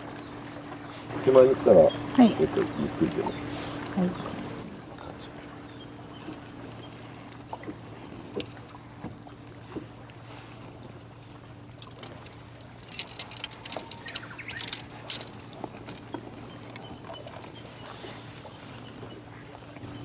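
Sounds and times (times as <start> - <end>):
waves lapping against boat hull: 0.0 - 20.0.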